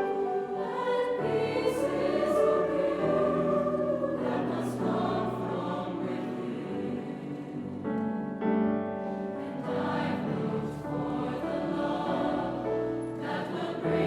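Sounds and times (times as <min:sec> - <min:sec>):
mixed choir singing: 0:00.0 - 0:08.3, 0:09.0 - 0:14.0.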